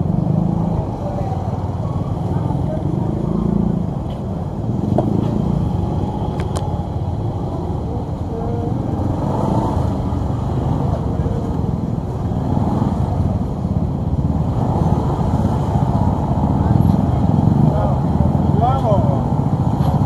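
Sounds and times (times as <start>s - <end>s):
crowd voices: 0.0s - 20.0s
motorbike engines rumbling: 0.0s - 20.0s.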